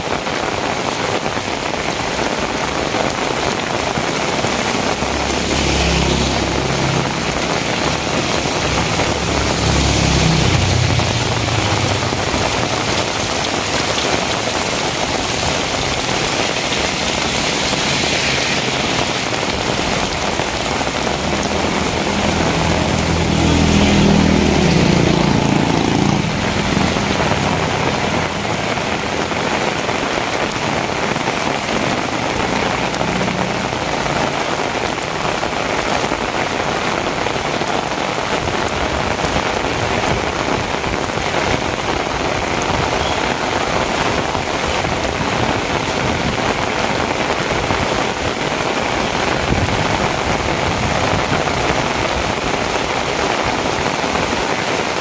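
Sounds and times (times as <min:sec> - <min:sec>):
heavy rain on hard surfaces: 0:00.0 - 0:55.0.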